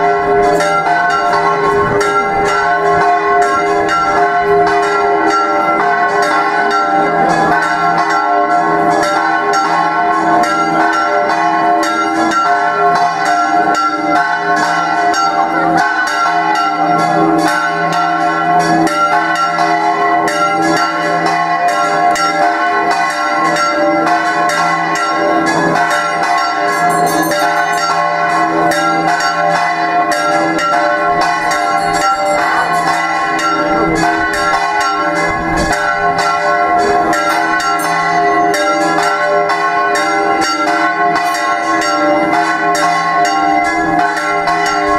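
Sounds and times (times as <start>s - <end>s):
church bells ringing a peal: 0.0s - 44.9s.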